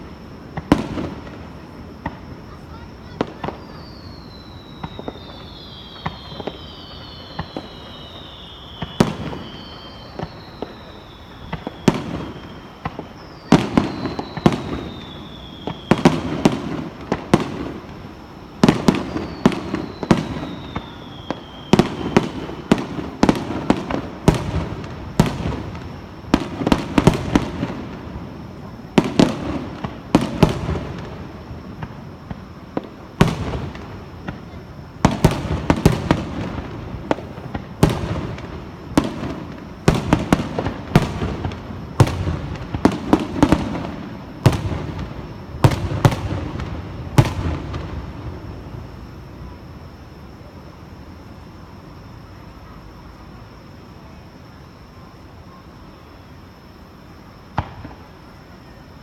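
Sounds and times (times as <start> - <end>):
firework whistles falling in pitch: 0.0 - 50.1
firework bursts and crackles: 0.0 - 59.0.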